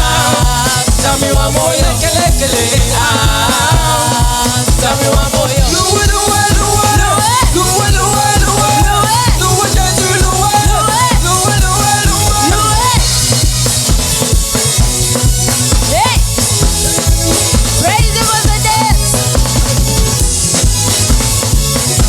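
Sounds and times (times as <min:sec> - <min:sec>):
people singing or calling out: 0:00.0 - 0:19.4
drum kit beat: 0:00.0 - 0:22.0
live band playing upbeat song: 0:00.0 - 0:22.0.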